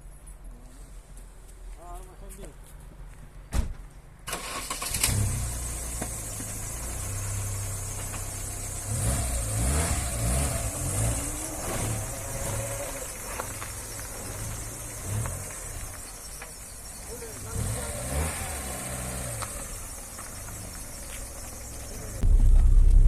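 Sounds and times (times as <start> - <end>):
vehicle engine starting and revving: 4.3 - 23.0.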